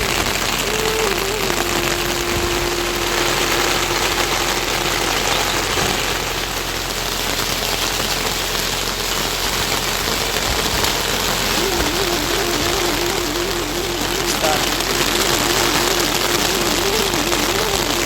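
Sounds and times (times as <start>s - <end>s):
heavy rainfall: 0.0s - 18.0s
steady humming tone: 0.0s - 18.0s.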